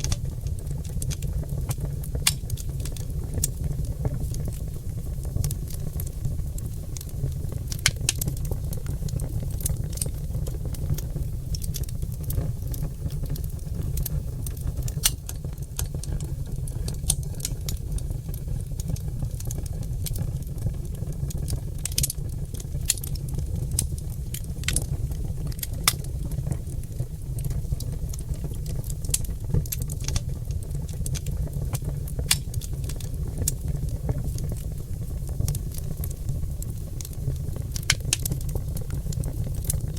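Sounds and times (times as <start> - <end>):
fire low rumble: 0.0 - 39.9
fire pops and snaps: 0.0 - 39.9.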